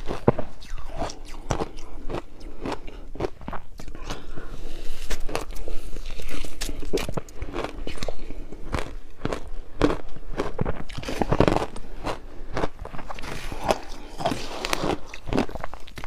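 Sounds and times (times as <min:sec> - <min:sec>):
ice being crunched and chewed: 0:00.0 - 0:16.0.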